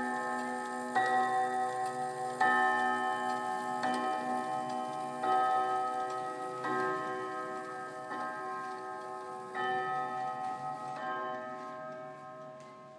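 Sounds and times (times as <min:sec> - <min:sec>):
chime clock striking: 0:00.0 - 0:12.9
clock ticking: 0:00.0 - 0:12.9.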